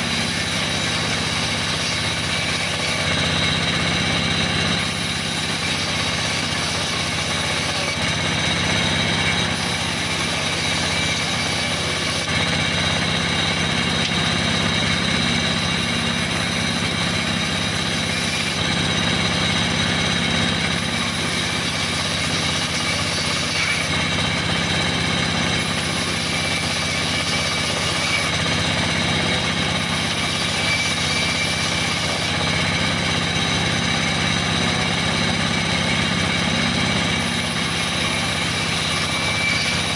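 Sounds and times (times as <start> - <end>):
saw ripping plank: 0.0 - 39.9.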